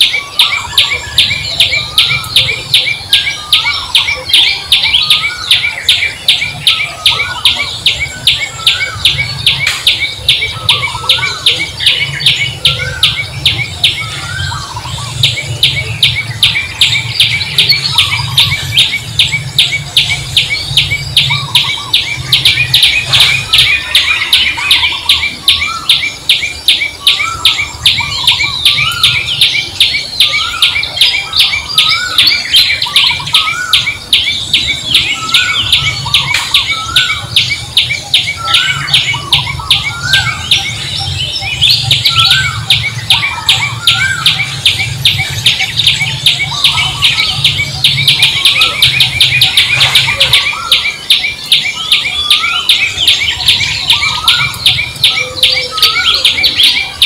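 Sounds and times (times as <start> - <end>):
fast even chirping: 0.0 - 57.0.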